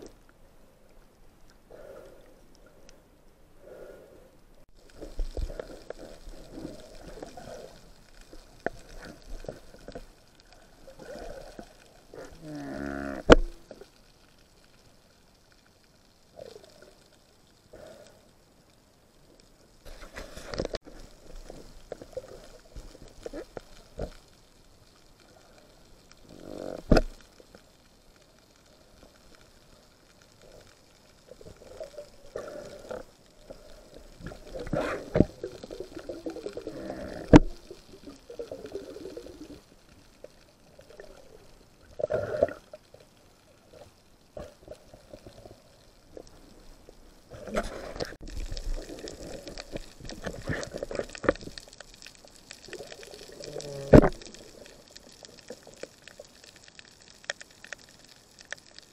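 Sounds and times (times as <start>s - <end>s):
underwater gurgling and sloshing: 0.0s - 58.9s.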